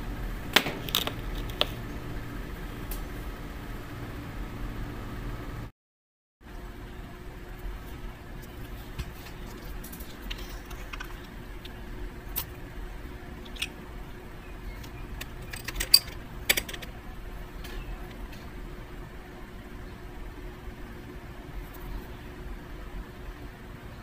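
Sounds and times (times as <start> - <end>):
steady low hum: 0.0 - 5.7, 6.4 - 24.0.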